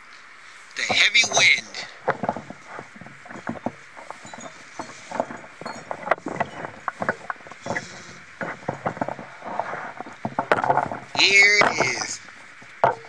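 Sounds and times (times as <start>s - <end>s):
loose objects rattling: 0.8s - 13.0s.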